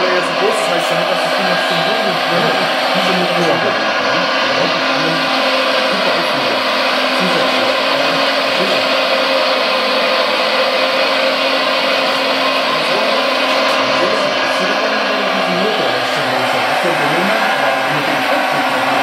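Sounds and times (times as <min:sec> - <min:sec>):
diesel engine sound: 0:00.0 - 0:19.0
motors and hydraulics whirring: 0:00.0 - 0:19.0.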